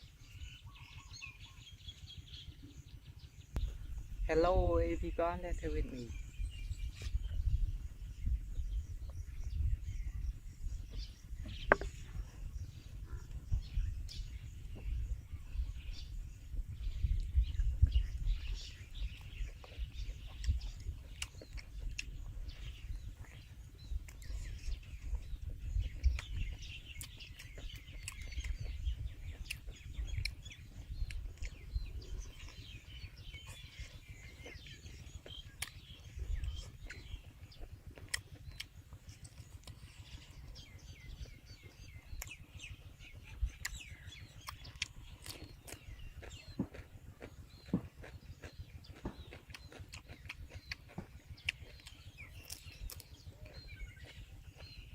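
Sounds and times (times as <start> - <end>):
low rumble: 0.0 - 54.9
small birds chirping: 0.0 - 54.9.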